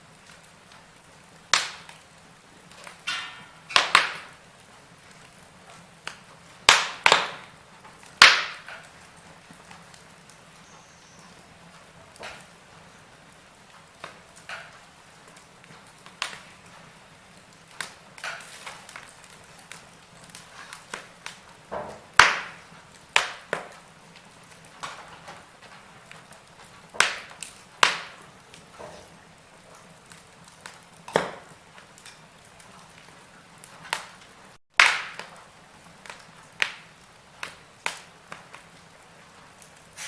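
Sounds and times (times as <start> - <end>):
faint steady hiss: 0.0 - 40.0
wood fire crackling: 0.0 - 40.0.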